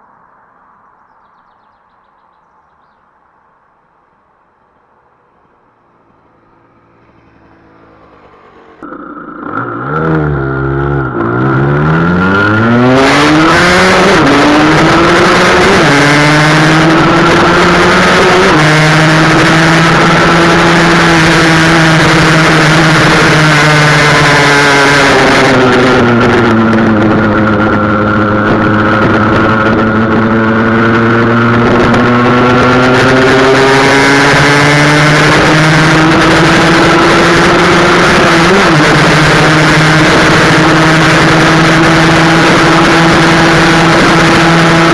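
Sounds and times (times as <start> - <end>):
motorcycle engine revving hard: 6.2 - 44.9.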